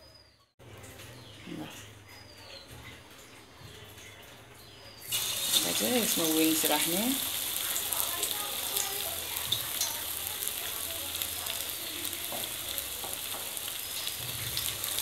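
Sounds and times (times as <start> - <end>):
chicken deep-frying in oil: 2.1 - 15.0.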